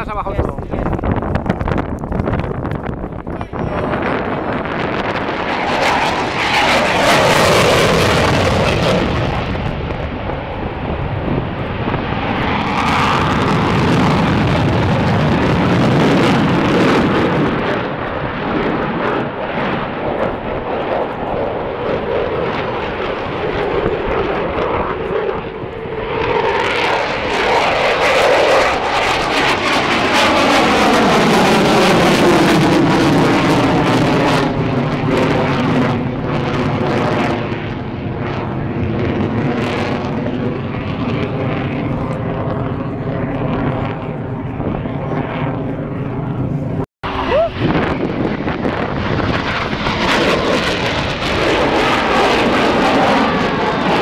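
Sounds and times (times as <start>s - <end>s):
jet flying past: 0.0s - 54.0s.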